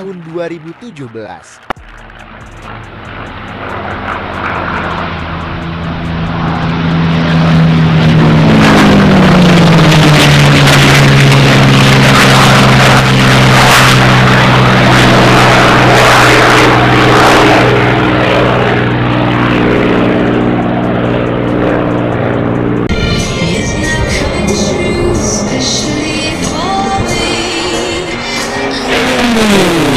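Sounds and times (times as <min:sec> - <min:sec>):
propeller plane engine passing: 0:00.0 - 0:29.9.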